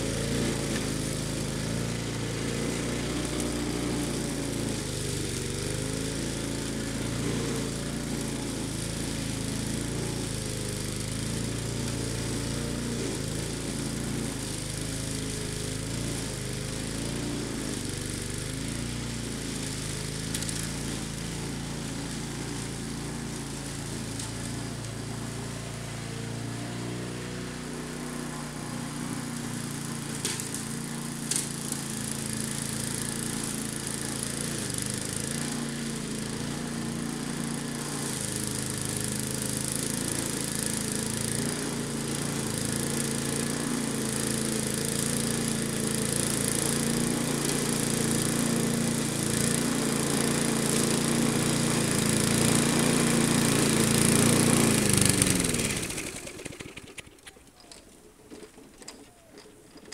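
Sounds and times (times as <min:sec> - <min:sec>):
lawn mower running: 0:00.0 - 0:59.9.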